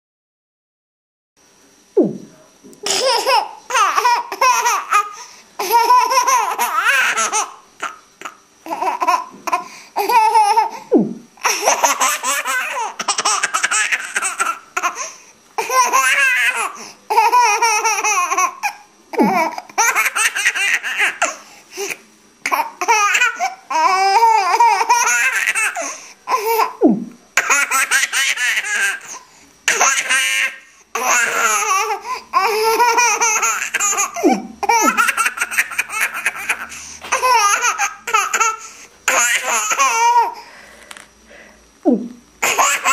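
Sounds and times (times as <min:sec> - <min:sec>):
baby girl laughing: 0:02.8 - 0:10.8, 0:11.4 - 0:21.4, 0:22.4 - 0:26.8, 0:27.4 - 0:40.4, 0:42.4 - 0:42.9.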